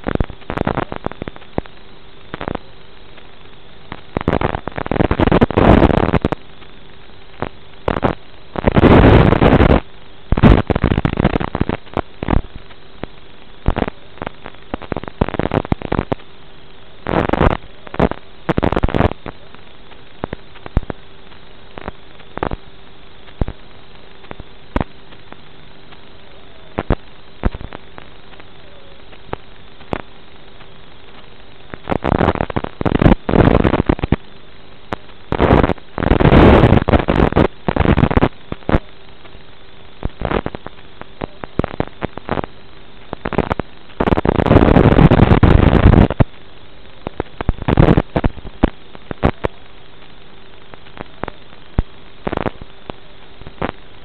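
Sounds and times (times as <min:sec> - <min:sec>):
faint hum: 0:00.0 - 0:54.0
loud crackling noise: 0:00.0 - 0:54.0
static hiss: 0:00.0 - 0:54.0.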